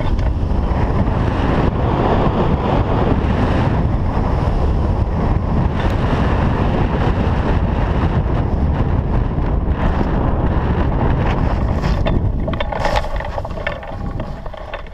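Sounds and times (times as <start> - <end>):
wind buffeting camera: 0.0 - 14.9.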